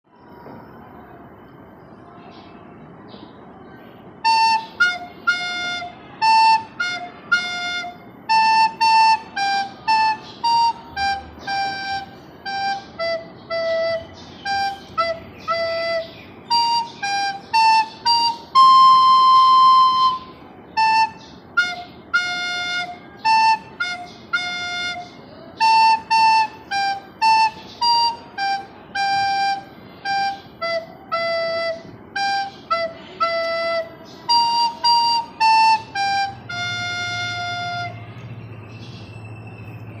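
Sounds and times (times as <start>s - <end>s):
flute-like wind instrument melody: 4.0s - 40.0s.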